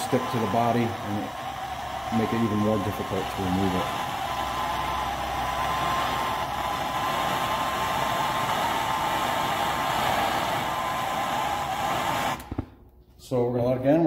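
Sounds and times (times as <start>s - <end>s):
hand torch flame hissing: 0.0s - 12.8s.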